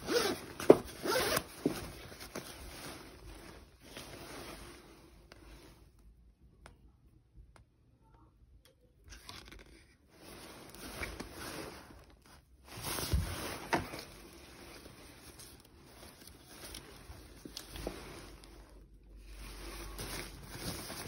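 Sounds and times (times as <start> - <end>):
jacket fabric rustling and crinkling: 0.0 - 6.1, 9.1 - 21.0.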